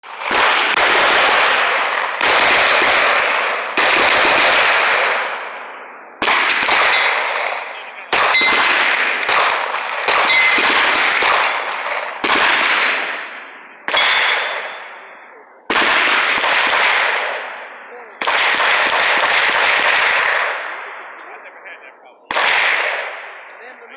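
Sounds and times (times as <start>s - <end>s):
echoing gunshots: 0.0s - 23.9s.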